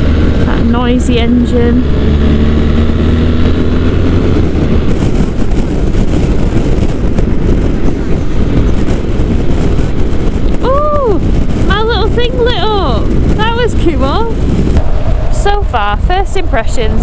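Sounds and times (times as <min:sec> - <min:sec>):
motorcycle engine drone: 0:00.0 - 0:17.0
road noise: 0:00.0 - 0:17.0
wind rush on microphone: 0:00.0 - 0:17.0.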